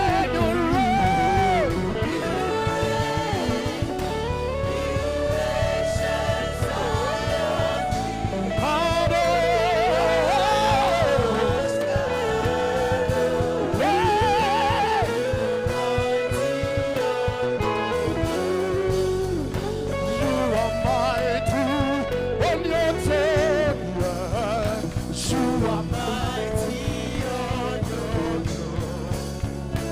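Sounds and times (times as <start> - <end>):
band with guitar and beat: 0.0 - 29.9.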